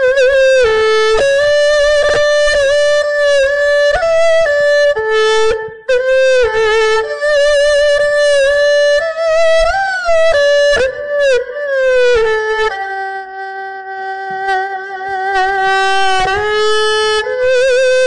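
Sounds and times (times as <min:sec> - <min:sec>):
erhu playing slow melody: 0:00.0 - 0:18.0.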